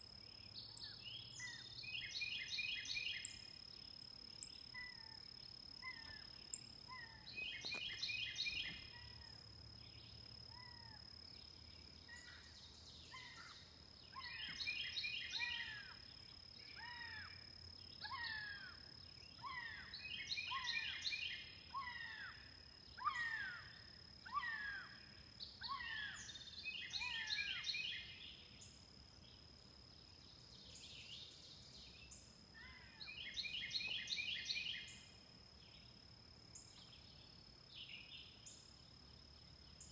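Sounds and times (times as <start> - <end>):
high insect drone: 0.0 - 39.9
songbirds chirping: 0.0 - 39.9.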